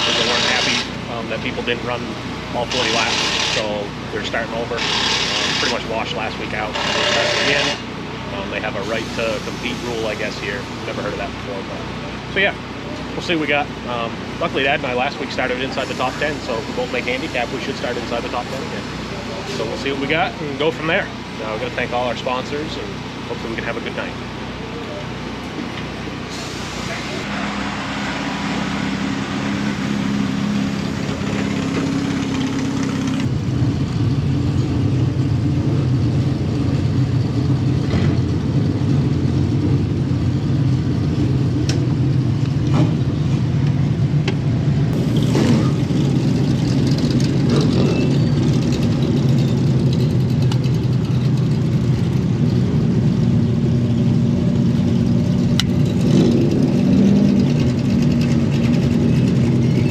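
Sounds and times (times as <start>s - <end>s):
race car engines running: 0.0s - 59.9s.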